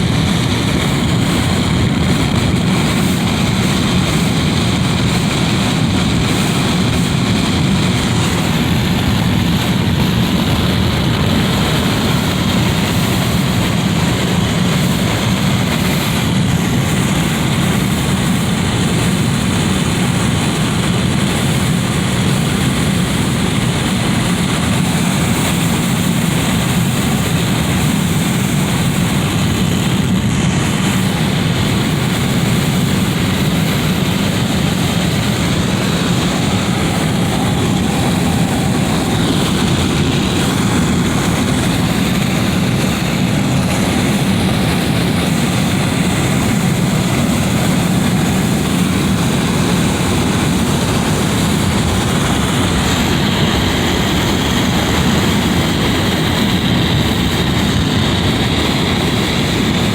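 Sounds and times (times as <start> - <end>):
wind rushing through window: 0.0 - 59.9.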